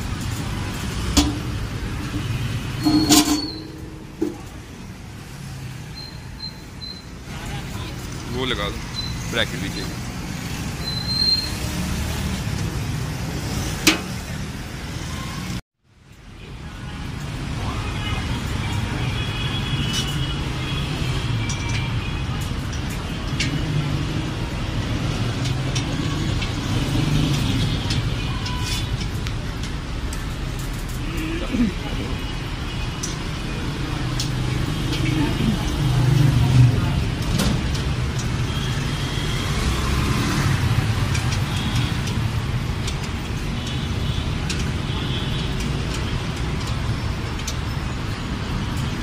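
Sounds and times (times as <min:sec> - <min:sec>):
traffic rumble: 0:00.0 - 0:49.0.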